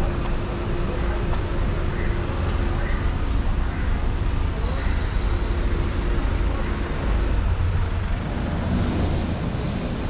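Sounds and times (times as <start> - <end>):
cars rumbling on road: 0.0 - 10.0.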